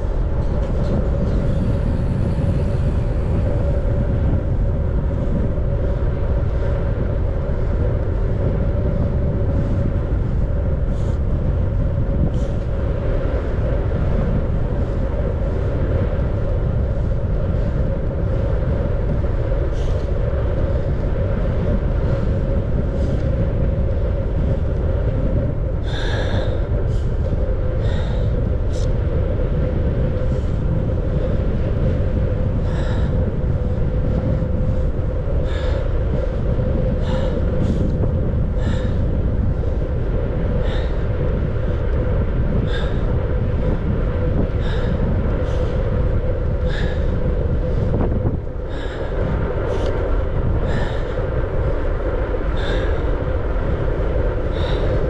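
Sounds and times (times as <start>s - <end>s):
steady hum: 0.0s - 55.0s
wind buffeting microphone: 0.0s - 55.0s.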